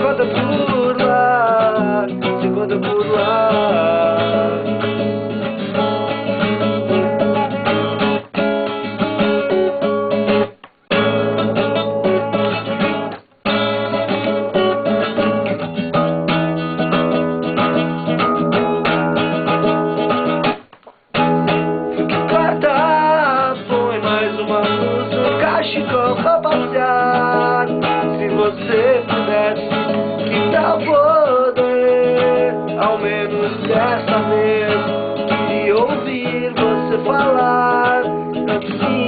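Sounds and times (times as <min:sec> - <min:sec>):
live band with guitar: 0:00.0 - 0:39.0.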